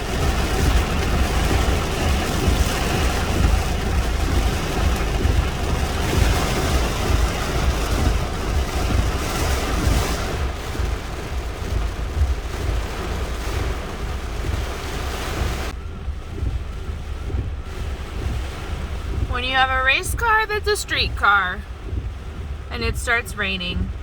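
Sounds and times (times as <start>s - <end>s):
deep low rumbles: 0.0s - 24.0s
heavy rain: 0.0s - 24.0s
wind buffeting microphone: 0.0s - 24.0s.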